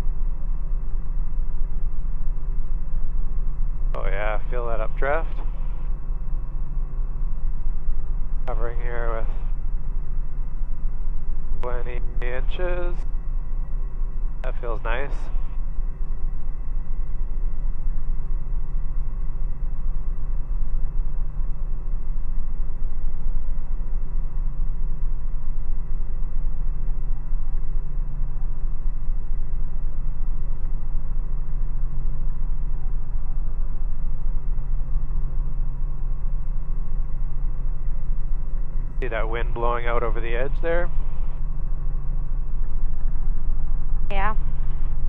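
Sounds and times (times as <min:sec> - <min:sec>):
helicopter engine and rotors: 0:00.0 - 0:45.0.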